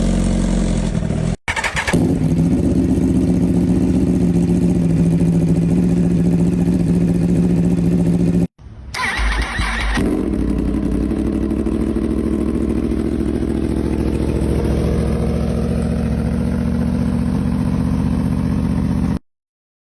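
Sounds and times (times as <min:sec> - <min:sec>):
motorcycle engine running: 0:00.0 - 0:19.2
motorcycle engine starting: 0:00.0 - 0:19.2.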